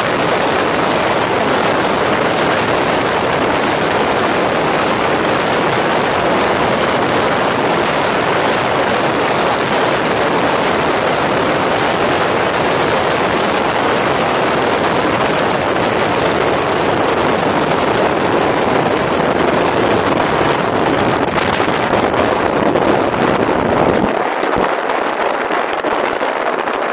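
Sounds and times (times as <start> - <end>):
tyres rolling on dirt trail: 0.0 - 26.9
wind buffeting microphone: 0.0 - 26.9.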